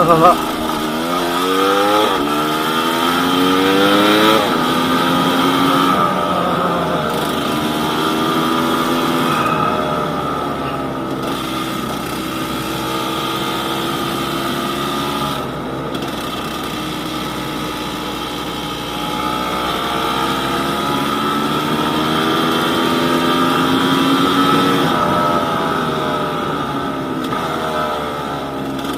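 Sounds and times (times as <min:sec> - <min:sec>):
two-stroke motorcycle engine: 0:00.0 - 0:28.9.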